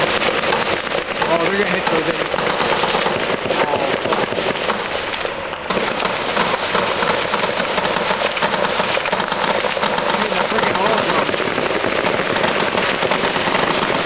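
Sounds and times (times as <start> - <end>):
small-arms gunfire: 0.0 - 14.0.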